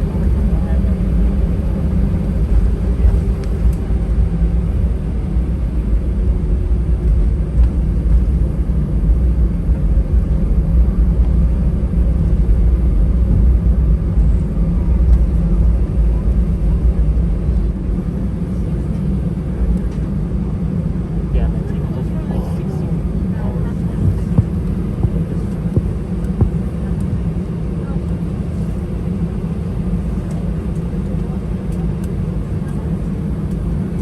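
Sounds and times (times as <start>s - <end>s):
airframe rolling rumble: 0.0s - 34.0s
jet engines idling: 0.0s - 34.0s.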